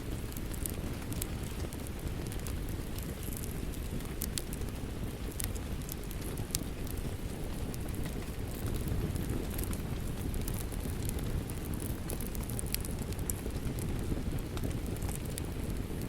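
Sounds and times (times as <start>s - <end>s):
low rumble of rain: 0.0s - 16.0s
wood fire crackling: 0.0s - 16.0s.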